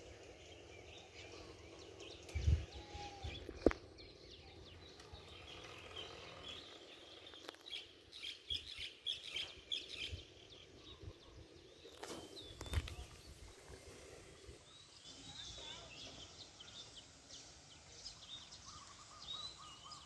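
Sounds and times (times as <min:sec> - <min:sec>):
faint bird chirping: 0:00.0 - 0:20.0
quiet open-air ambience: 0:00.0 - 0:20.0.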